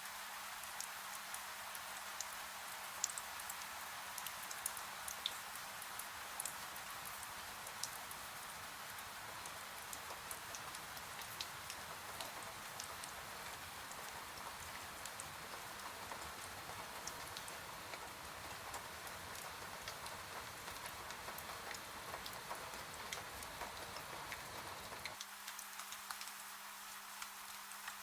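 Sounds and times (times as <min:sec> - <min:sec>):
steady rain hiss: 0:00.0 - 0:28.0
single raindrops ticking: 0:03.0 - 0:26.4.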